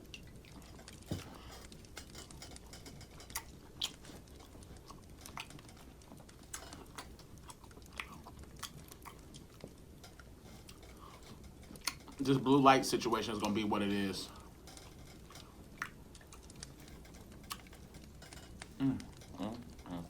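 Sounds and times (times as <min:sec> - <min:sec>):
person chewing food: 0:00.0 - 0:12.2, 0:14.4 - 0:20.0.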